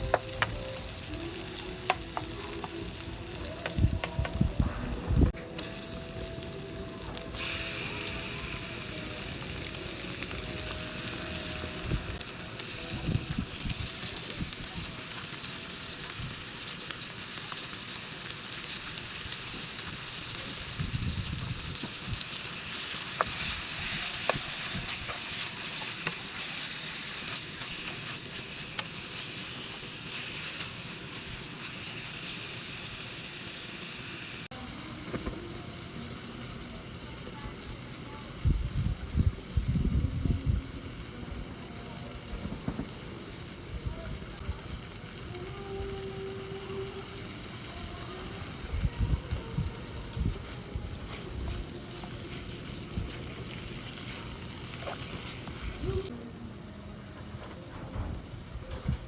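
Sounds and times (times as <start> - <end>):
chicken sizzling in a pan: 0.0 - 56.1.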